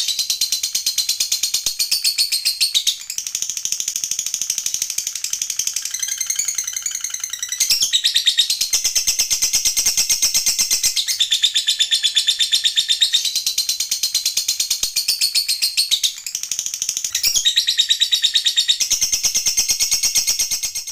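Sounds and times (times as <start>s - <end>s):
lovebird chattering trill: 1.6s - 20.9s.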